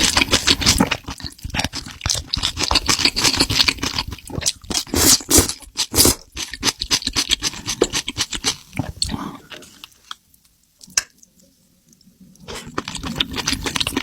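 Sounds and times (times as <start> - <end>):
wet chewing and crunching: 0.0 - 10.2, 12.4 - 14.0.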